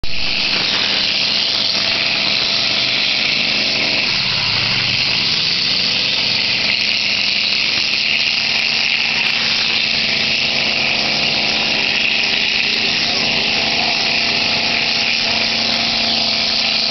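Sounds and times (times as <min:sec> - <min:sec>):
heavy engine running: 0:00.1 - 0:16.9.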